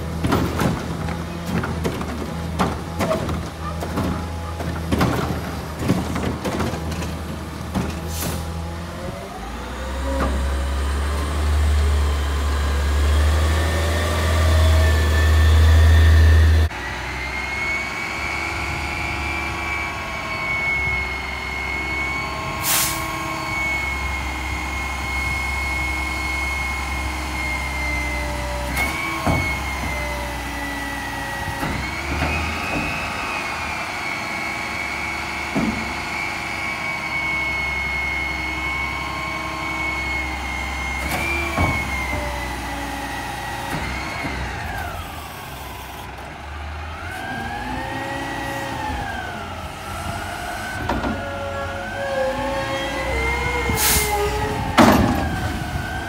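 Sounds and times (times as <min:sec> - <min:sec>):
garbage truck engine running: 0:00.0 - 0:56.0
high hydraulic whine: 0:08.0 - 0:46.3, 0:47.0 - 0:56.0.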